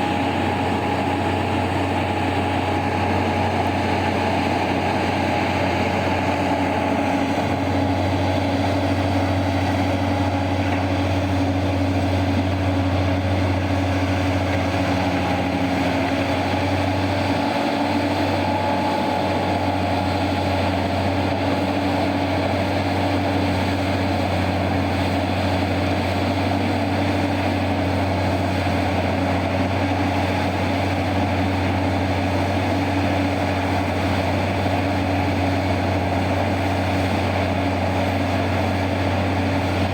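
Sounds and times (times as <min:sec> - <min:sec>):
heavy diesel engines droning: 0:00.0 - 0:39.9.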